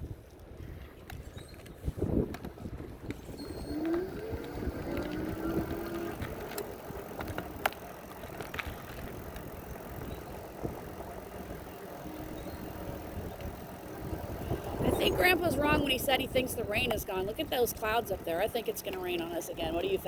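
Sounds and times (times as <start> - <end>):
wind: 0.0 - 20.0
tyre rumble: 1.2 - 18.4
motor whine: 3.0 - 20.0.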